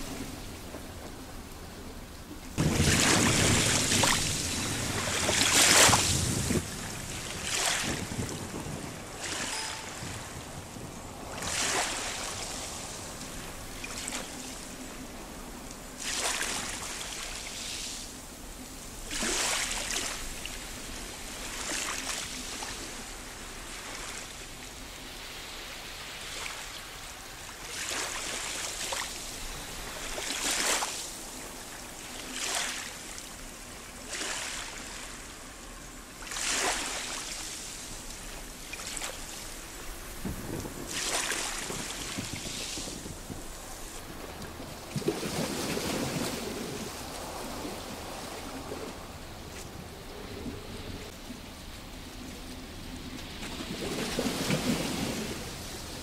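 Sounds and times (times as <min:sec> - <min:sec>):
waves washing over rocks: 0:02.5 - 0:18.3, 0:18.9 - 0:56.0.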